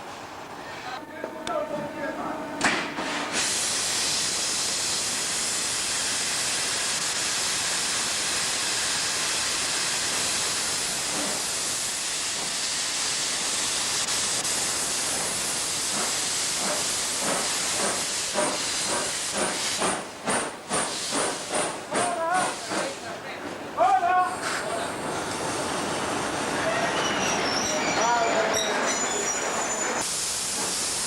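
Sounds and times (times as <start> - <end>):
train venting hiss: 3.1 - 31.0.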